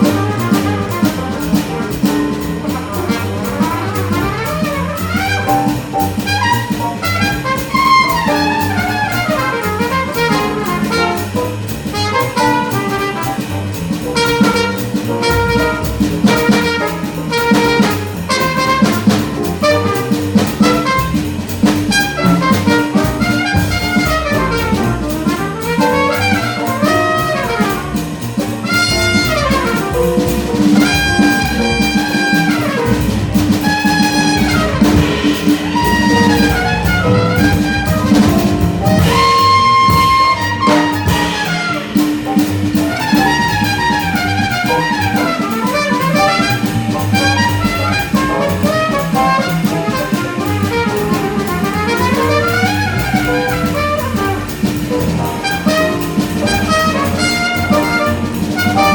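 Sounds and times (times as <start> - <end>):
bass: 0.0 - 58.9
drums: 0.0 - 58.9
horn playing fast melody: 0.0 - 58.9
piano: 0.0 - 58.9.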